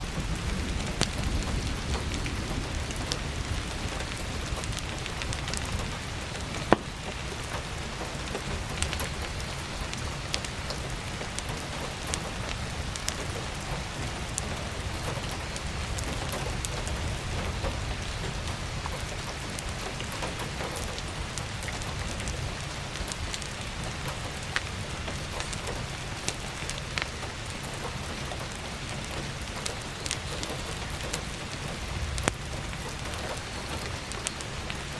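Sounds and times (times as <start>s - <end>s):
firewood crackling and popping: 0.0s - 34.9s
heavy rain on skylight: 0.0s - 34.9s.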